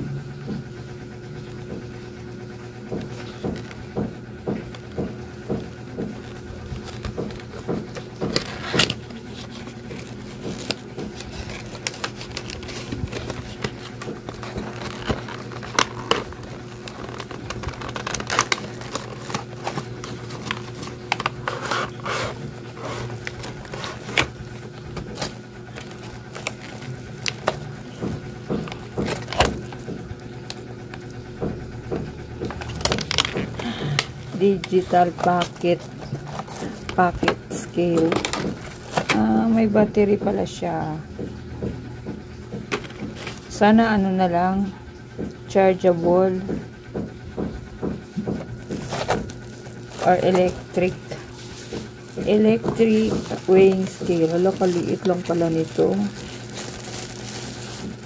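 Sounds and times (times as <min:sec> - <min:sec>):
steady low hum: 0:00.0 - 0:58.0
plastic crinkling: 0:03.0 - 0:31.3, 0:31.9 - 0:39.5, 0:42.7 - 0:43.6, 0:47.9 - 0:58.0.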